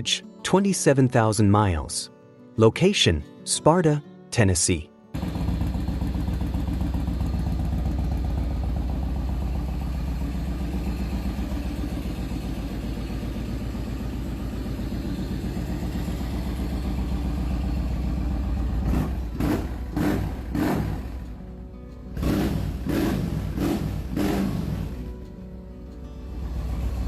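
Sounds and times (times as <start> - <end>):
motorcycle engine idling: 5.2 - 27.0.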